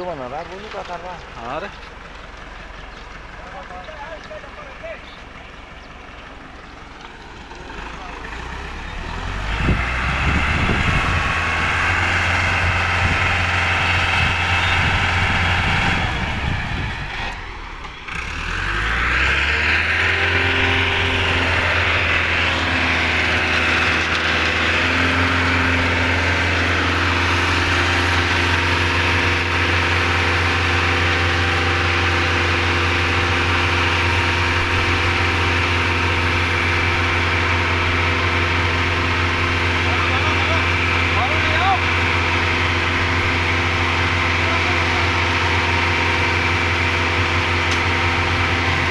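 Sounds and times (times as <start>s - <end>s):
concrete mixer engine running: 0.0s - 48.9s.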